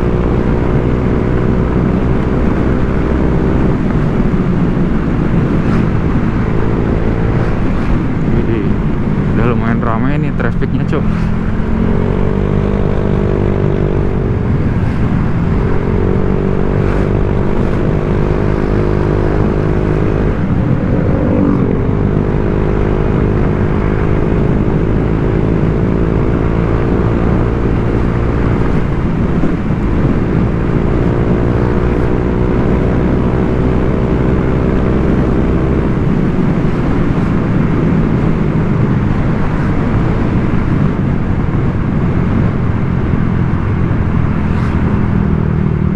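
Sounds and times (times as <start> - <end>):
wind and road noise: 0.0 - 45.9.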